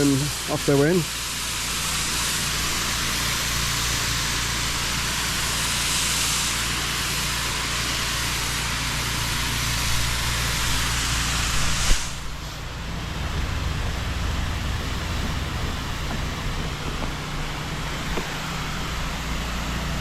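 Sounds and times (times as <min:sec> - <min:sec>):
pressure washer motor hum: 0:00.0 - 0:20.0
pressure washer spraying water: 0:00.0 - 0:20.0.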